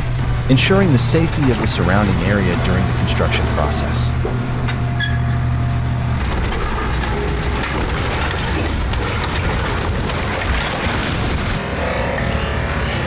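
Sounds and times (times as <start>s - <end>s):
heavy machinery rumble: 0.0s - 13.0s.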